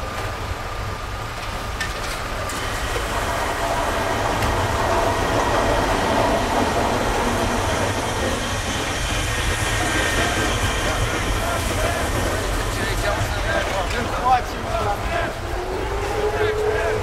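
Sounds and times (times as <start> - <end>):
tram wheels on rails: 0.0 - 17.0.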